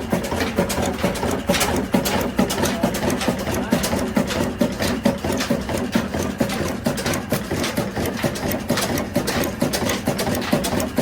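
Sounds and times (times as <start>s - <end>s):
diesel engine knocking steadily: 0.0s - 11.0s.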